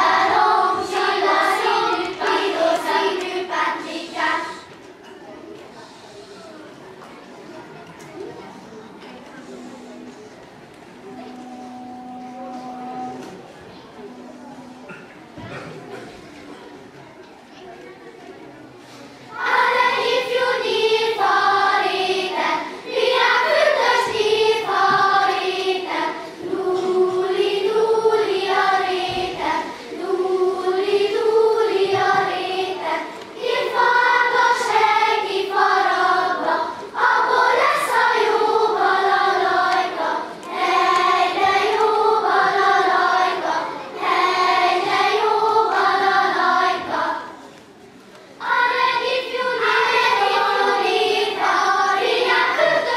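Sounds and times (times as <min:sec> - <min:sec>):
children's choir singing: 0:00.0 - 0:18.6, 0:19.2 - 0:52.9.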